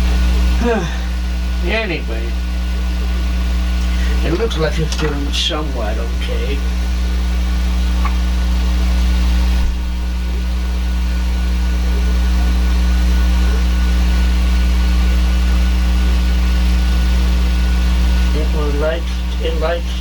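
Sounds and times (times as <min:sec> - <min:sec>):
printer motors and fans humming: 0:00.0 - 0:20.0.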